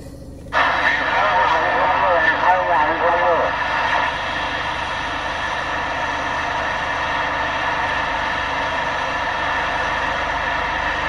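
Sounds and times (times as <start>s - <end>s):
car engine noise inside cabin: 0.0s - 11.0s.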